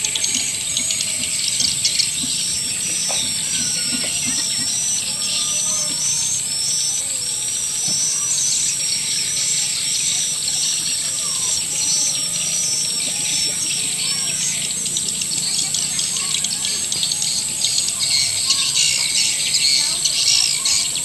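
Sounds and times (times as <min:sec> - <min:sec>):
swiftlet chirps and twitters: 0:00.1 - 0:21.0.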